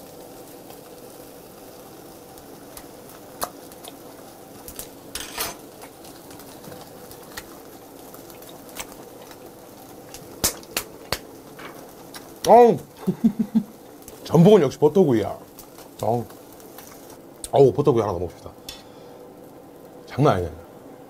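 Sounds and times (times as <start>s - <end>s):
eel sizzling on grill: 0.0s - 21.0s.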